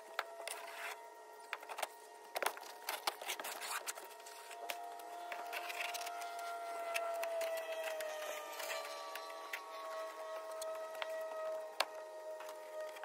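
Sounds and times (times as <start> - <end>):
faint steady hum: 0.0 - 13.0
wooden strip scraping and cracking: 0.2 - 13.0.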